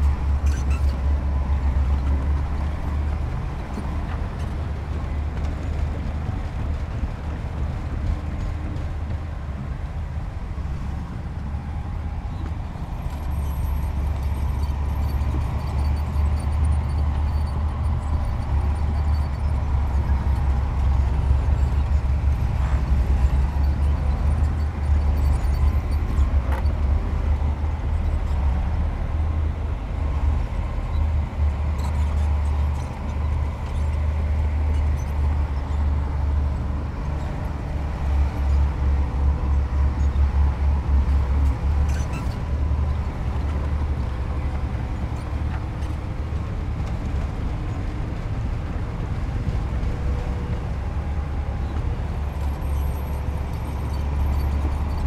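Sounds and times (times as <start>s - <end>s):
diesel machinery rumbling: 0.0s - 55.0s.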